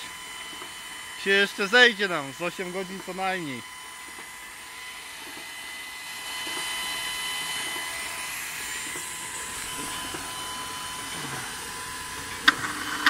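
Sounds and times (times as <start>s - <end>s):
drill hissing through sand: 0.0s - 13.0s
drilling rig motor whine: 0.0s - 13.0s.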